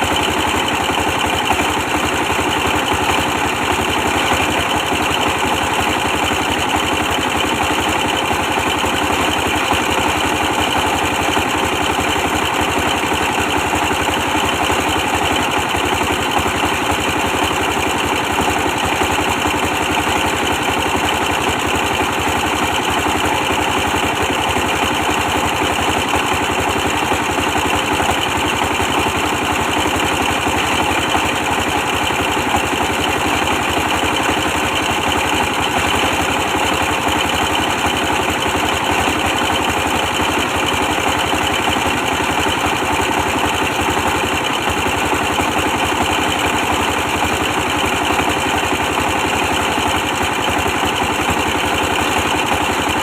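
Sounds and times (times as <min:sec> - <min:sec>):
diesel engine running steadily: 0:00.0 - 0:53.0.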